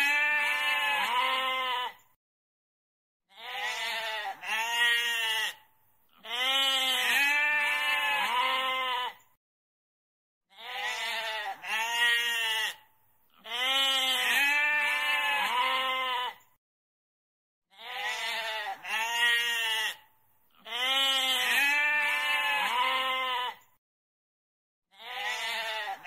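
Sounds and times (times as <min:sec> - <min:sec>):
goat bleating: 0:00.0 - 0:02.0, 0:03.3 - 0:09.3, 0:10.5 - 0:16.5, 0:17.7 - 0:23.7, 0:24.9 - 0:26.0.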